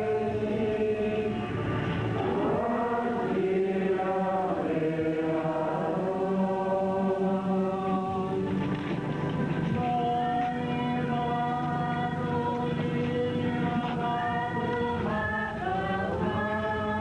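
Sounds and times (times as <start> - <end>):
group singing a slow hymn: 0.0 - 17.0.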